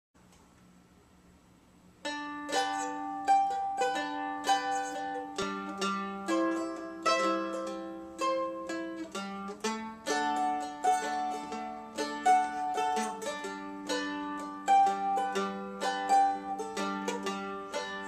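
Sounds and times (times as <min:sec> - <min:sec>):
mandolin picked notes: 0:02.0 - 0:18.0.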